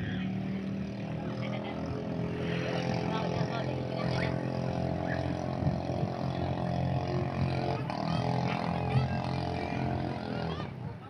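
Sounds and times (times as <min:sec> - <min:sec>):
faint voices calling: 0:00.0 - 0:11.0
small boat engine running: 0:00.0 - 0:11.0.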